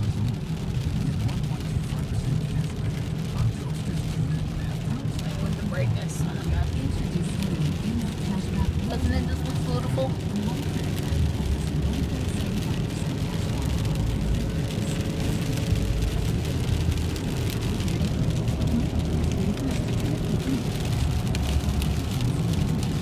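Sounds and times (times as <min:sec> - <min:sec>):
spray and rain on car: 0:00.0 - 0:23.0
tyres and engine rumble: 0:00.0 - 0:23.0.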